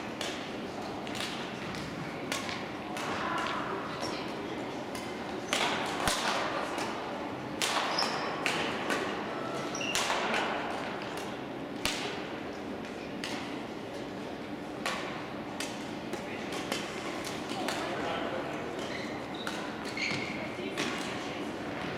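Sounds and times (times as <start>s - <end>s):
rackets hitting shuttlecocks: 0.1s - 9.2s, 9.8s - 12.4s, 13.1s - 13.6s, 14.8s - 18.0s, 18.7s - 21.9s.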